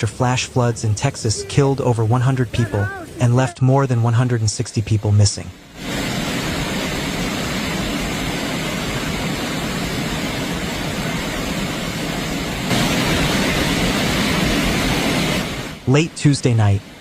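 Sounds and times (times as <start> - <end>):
floodwater rushing: 0.0 - 3.6, 5.7 - 17.0.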